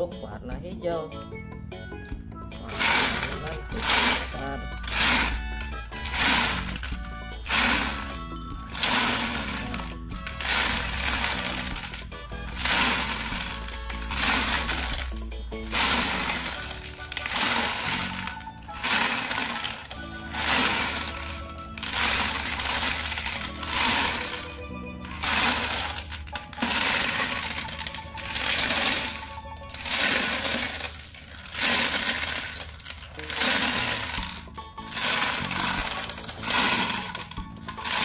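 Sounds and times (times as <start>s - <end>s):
background music with pulsing beat: 0.0s - 38.0s
glass marbles clattering: 2.7s - 38.0s.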